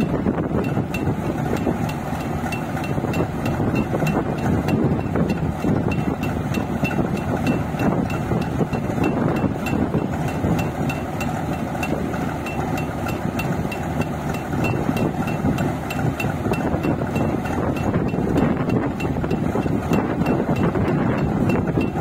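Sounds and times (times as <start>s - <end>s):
combine harvester din: 0.0s - 22.0s
regular mechanical knocking: 0.0s - 22.0s.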